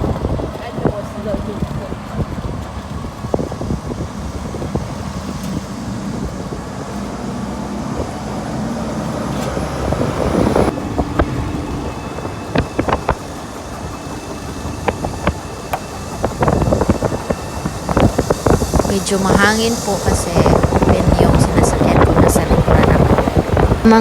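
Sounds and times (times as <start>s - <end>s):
road and motor noise: 0.0s - 24.0s
wind: 0.0s - 24.0s.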